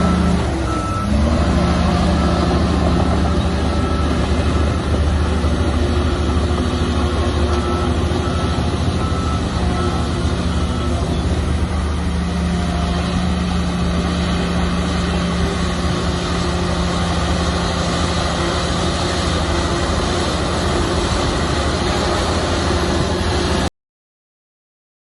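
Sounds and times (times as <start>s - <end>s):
bulldozer diesel engine running: 0.0s - 23.7s.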